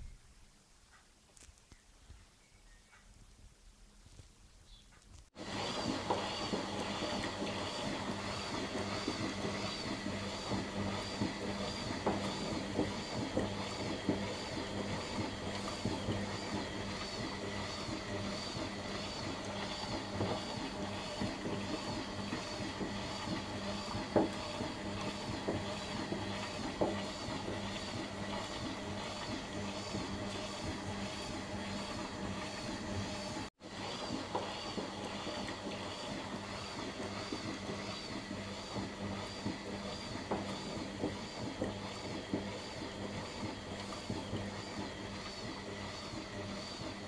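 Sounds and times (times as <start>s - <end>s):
washing machine spinning: 5.3s - 47.0s.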